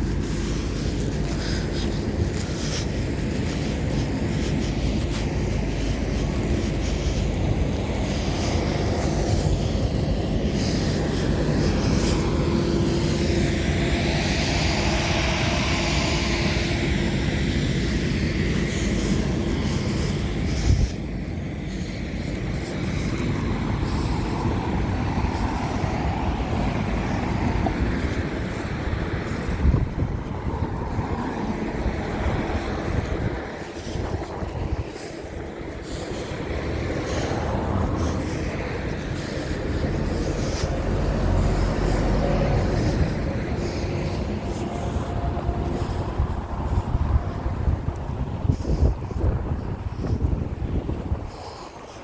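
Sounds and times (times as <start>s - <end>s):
vehicle passing: 0.0s - 21.0s, 21.8s - 51.7s
traffic rumble: 0.0s - 52.0s.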